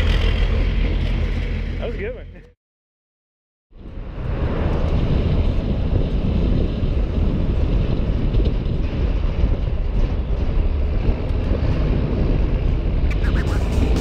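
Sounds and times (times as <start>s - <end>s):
wind and road noise: 0.0s - 2.6s, 3.7s - 14.0s.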